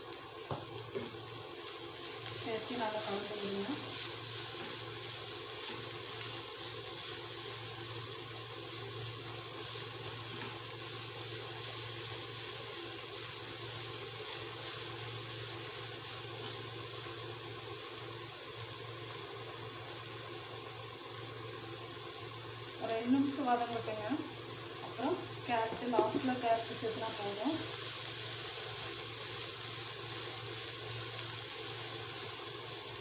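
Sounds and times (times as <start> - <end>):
vegetables sizzling in a pan: 0.0 - 33.0.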